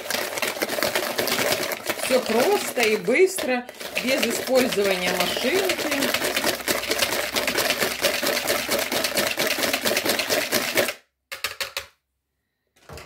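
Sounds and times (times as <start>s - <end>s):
whisk clicking against bowl: 0.0s - 11.9s.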